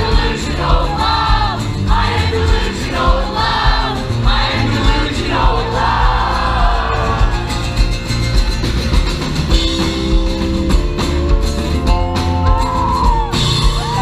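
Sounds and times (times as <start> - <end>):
drum kit beat: 0.0 - 14.0
rock band playing live: 0.0 - 14.0.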